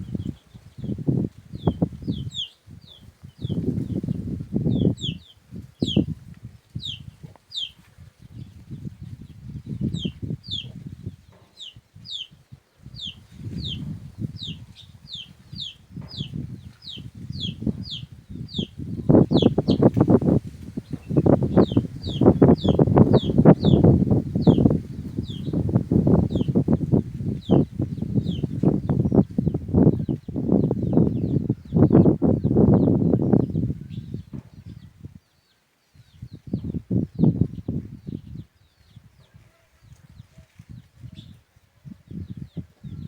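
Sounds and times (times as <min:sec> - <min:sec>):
small bird chirping: 0:00.0 - 0:41.4
low rustling noise: 0:00.0 - 0:42.8.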